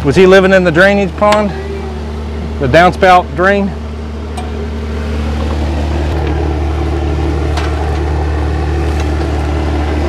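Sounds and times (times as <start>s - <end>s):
machine low mechanical drone: 0.0s - 10.0s.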